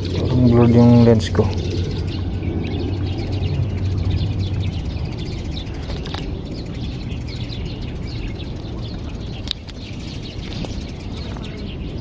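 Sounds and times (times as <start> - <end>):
birds chirping: 0.0 - 12.0
low rumble: 0.0 - 12.0.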